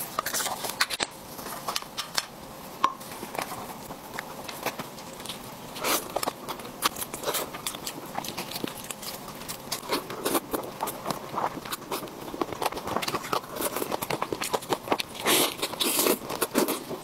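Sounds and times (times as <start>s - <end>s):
smacking bites and chewing: 3.2s - 17.0s.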